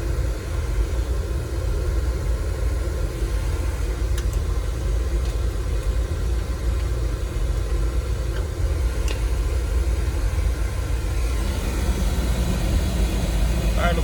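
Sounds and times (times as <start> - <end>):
oil furnace burner rumbling: 0.0 - 14.0.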